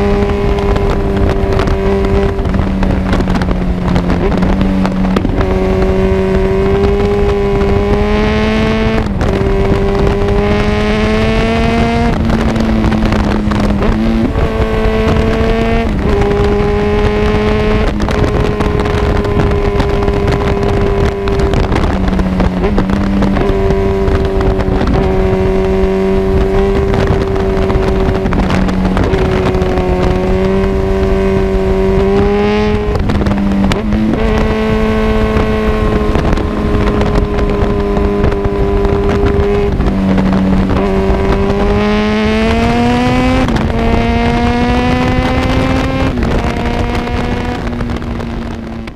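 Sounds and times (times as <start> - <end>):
motorcycle engine revving: 0.0 - 48.9
wind noise on microphone: 0.0 - 48.9.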